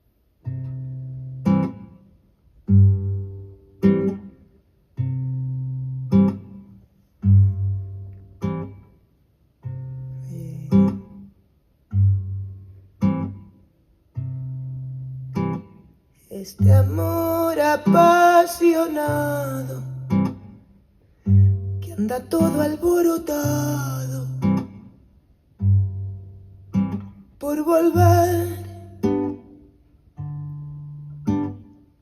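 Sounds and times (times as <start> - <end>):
acoustic guitar music: 0.2 - 32.0.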